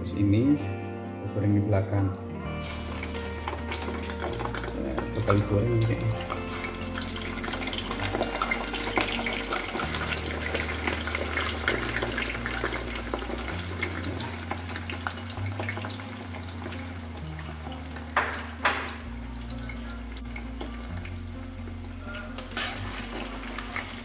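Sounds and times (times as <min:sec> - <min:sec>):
hot oil sizzling and popping: 0:02.6 - 0:24.0.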